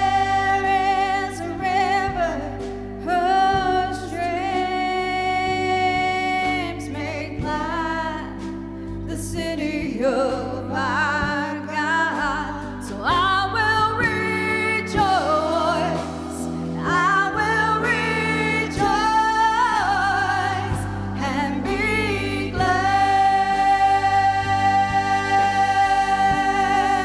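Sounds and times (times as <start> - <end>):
gospel singing: 0.0 - 27.0
instrumental accompaniment: 0.0 - 27.0.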